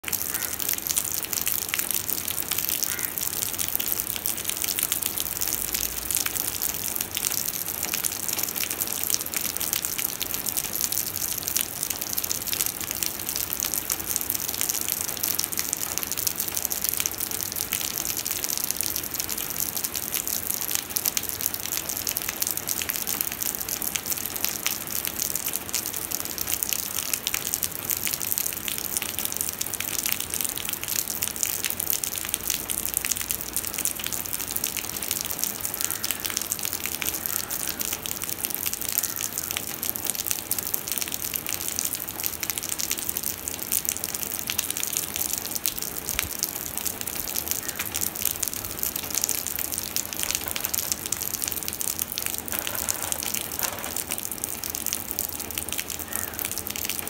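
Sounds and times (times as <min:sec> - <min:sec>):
heavy rain splashing into puddle: 0:00.0 - 0:57.0.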